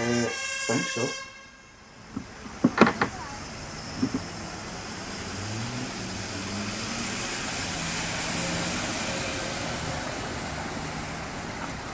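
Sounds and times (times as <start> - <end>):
rushing engine noise: 0.0 - 11.9.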